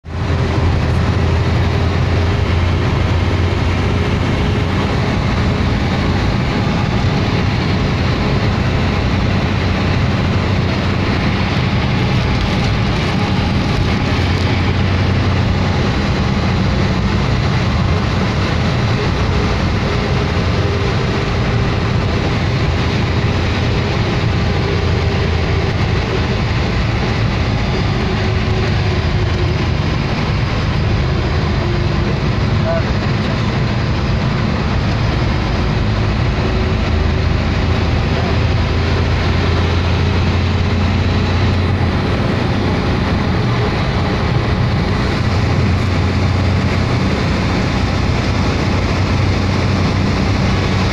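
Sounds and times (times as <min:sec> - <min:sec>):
vehicle engine and road drone: 0:00.0 - 0:50.9.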